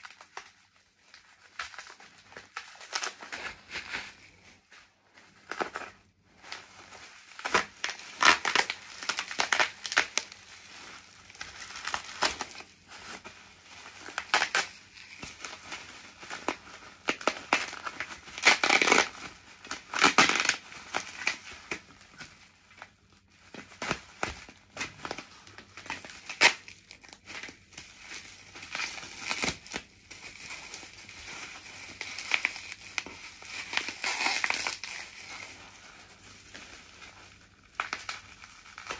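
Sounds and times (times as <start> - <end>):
bubble wrap crinkling: 0.0 - 38.9.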